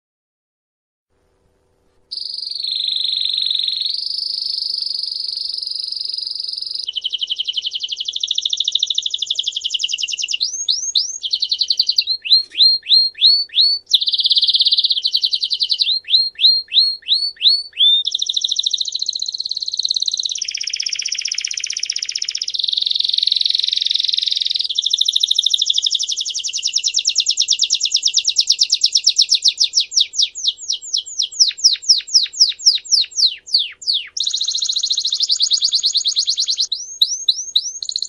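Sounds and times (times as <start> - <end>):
bird chirps sweeping downward: 2.1 - 38.0
songbird trilling: 2.1 - 38.0.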